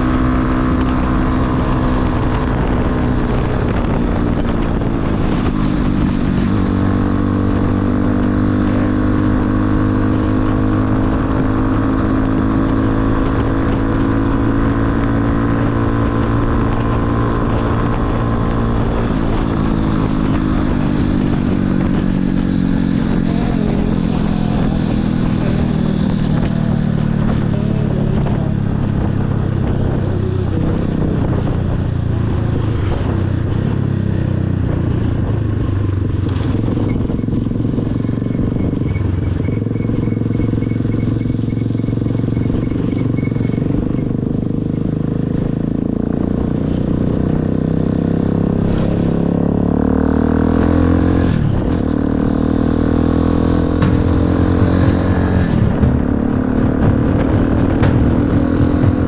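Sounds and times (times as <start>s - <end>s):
wind on microphone: 0.0s - 39.9s, 50.3s - 59.0s
motorcycle engine running: 0.0s - 59.0s.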